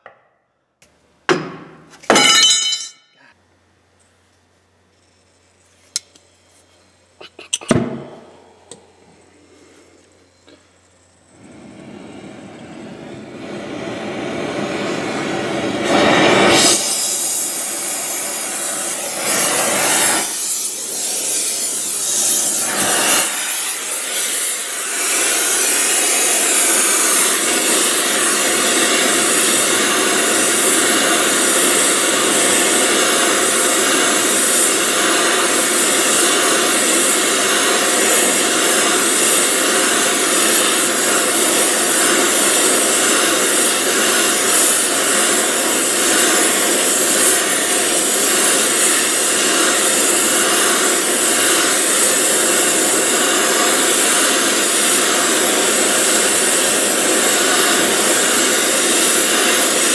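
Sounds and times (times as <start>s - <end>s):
gas torch flame hissing: 5.4s - 59.9s.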